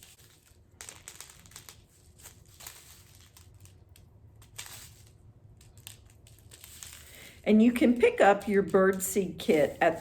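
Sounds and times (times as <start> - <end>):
birdseed rustling on paper plate: 0.0 - 10.0.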